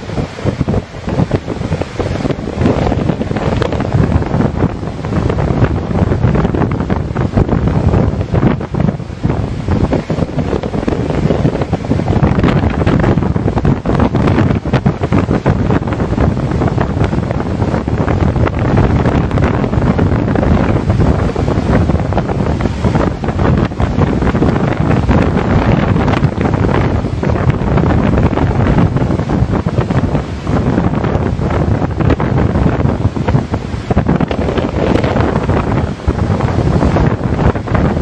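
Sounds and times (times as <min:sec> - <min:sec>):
rough sea: 0:00.0 - 0:38.0
storm wind buffeting microphone: 0:00.0 - 0:38.0.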